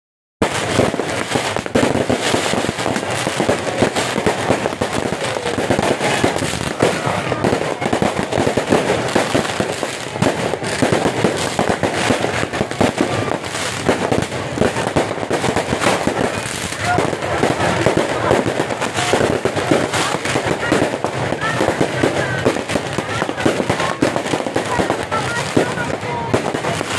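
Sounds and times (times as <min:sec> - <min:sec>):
fireworks bangs and crackles: 0:00.4 - 0:26.9.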